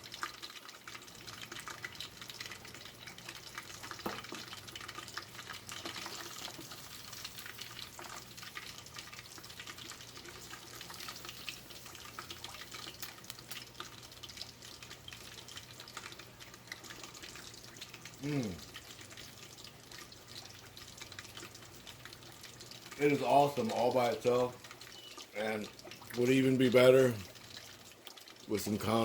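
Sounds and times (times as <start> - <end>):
sausages sizzling in hot oil: 0.0 - 29.0.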